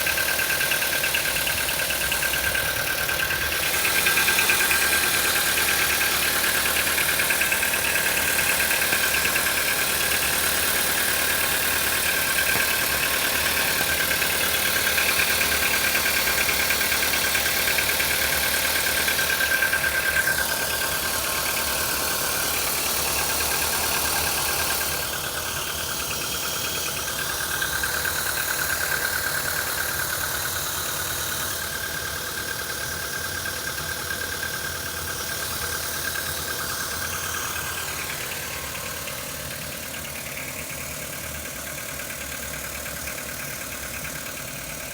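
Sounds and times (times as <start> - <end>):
car engine idling with knock: 0.0 - 44.9.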